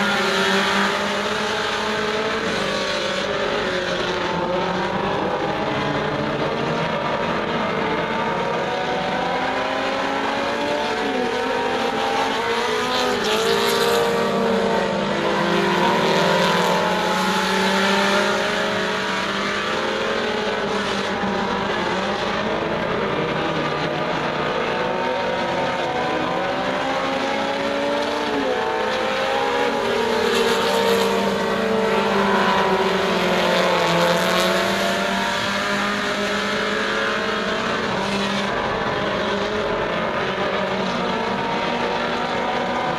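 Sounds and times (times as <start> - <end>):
race car engines revving: 0.0 - 42.9.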